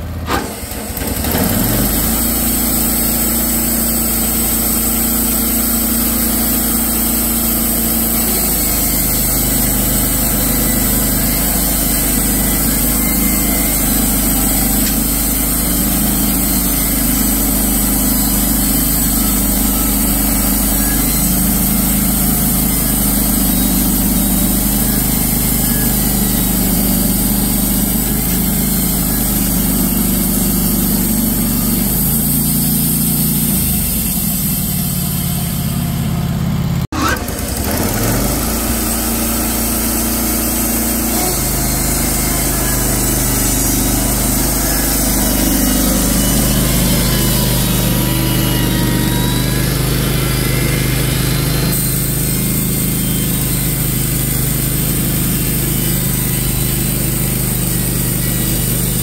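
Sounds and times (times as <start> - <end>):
sawmill gasoline engine running: 0.0 - 59.0
band blade sawing log: 0.3 - 35.7, 36.9 - 59.0.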